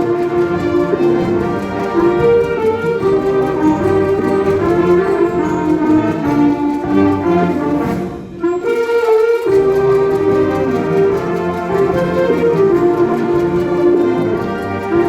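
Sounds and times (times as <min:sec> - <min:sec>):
wind band playing melody: 0:00.0 - 0:15.0.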